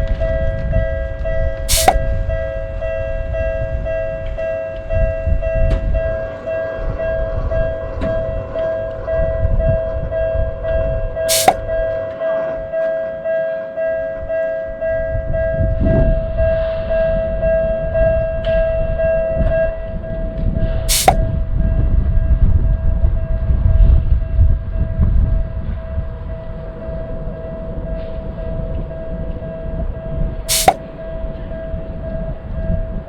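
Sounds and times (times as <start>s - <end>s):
railroad crossing bell ringing: 0.0s - 33.0s
train rumbling past: 0.0s - 33.0s.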